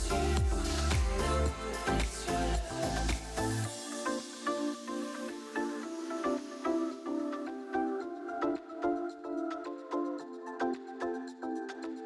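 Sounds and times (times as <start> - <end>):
light electronic music: 0.0 - 12.0.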